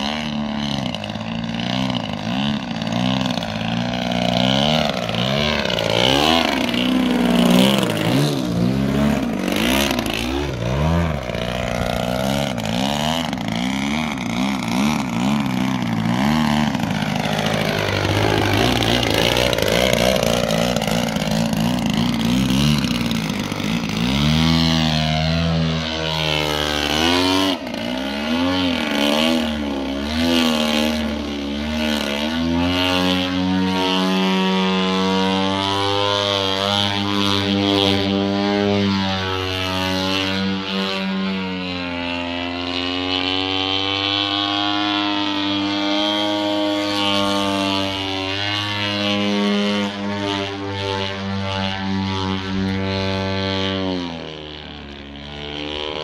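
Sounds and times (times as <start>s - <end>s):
model plane engine and propeller: 0.0s - 56.0s.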